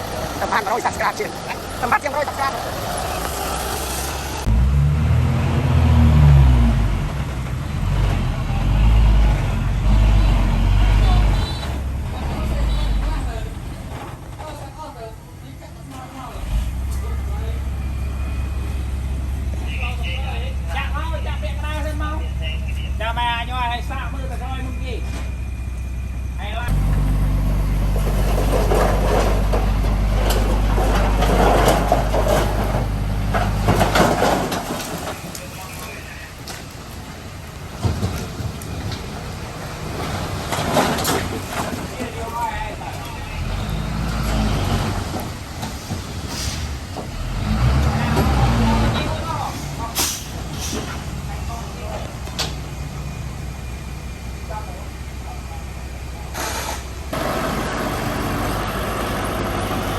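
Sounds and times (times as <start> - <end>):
heavy machine diesel engine: 0.0 - 59.9.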